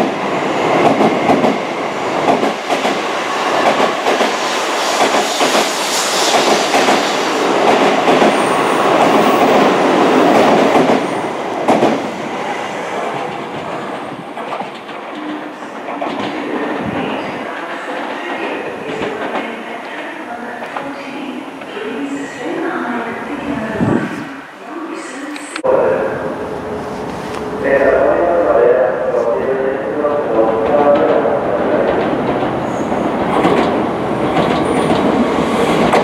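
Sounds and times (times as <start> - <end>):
high-speed train passing: 0.0 - 36.0.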